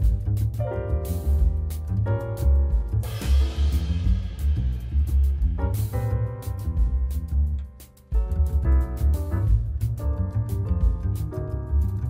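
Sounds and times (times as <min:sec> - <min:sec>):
instrumental background music: 0:00.0 - 0:12.0
low bass pulse: 0:00.0 - 0:12.0.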